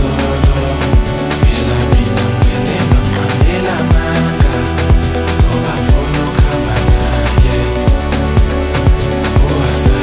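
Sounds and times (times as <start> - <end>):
held bass line: 0.0 - 10.0
house dance music: 0.0 - 10.0.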